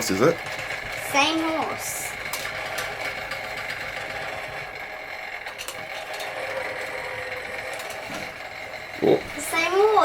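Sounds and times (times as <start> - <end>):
engine mechanical whirr: 0.0 - 10.0.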